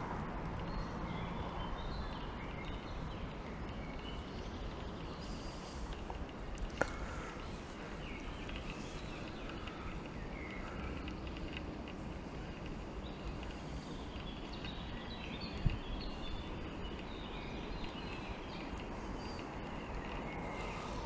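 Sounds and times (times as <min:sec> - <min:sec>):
low background noise: 0:00.0 - 0:21.0
birds chirping: 0:00.6 - 0:21.0.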